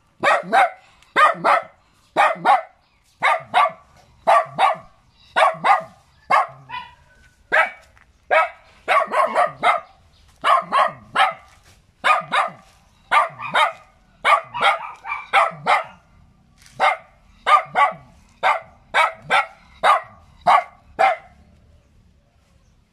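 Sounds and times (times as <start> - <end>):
small dog barking: 0.2 - 21.4.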